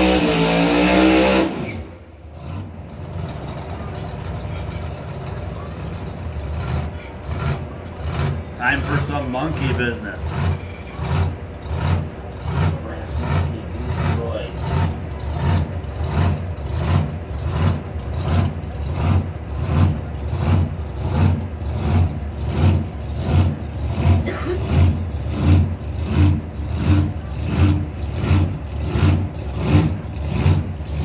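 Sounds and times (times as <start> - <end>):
engine idling with a lumpy lope: 2.2 - 31.0.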